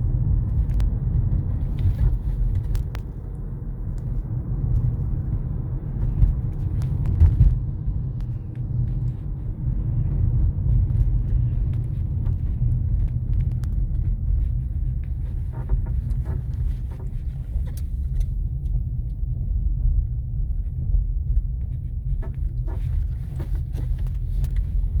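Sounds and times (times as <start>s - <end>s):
car rumbling on the move: 0.0s - 25.0s.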